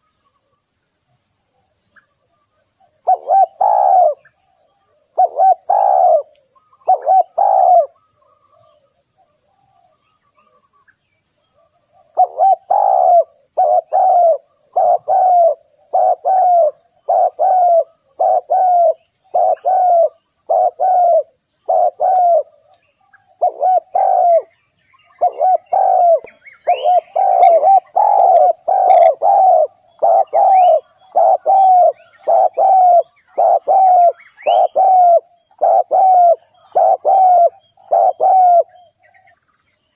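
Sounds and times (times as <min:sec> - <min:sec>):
small birds chirping: 0:00.0 - 0:39.9
dove cooing: 0:02.9 - 0:08.9, 0:11.6 - 0:39.3.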